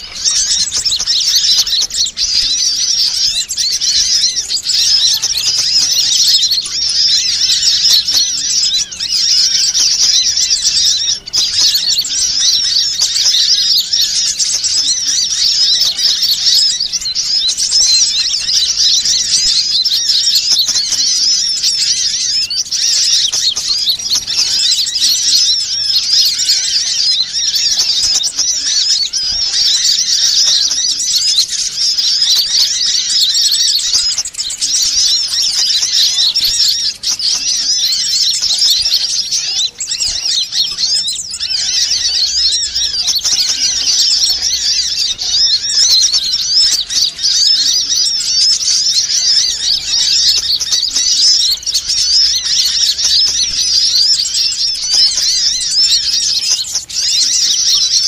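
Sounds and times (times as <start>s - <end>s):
sunbirds chattering and trilling: 0.0s - 58.0s.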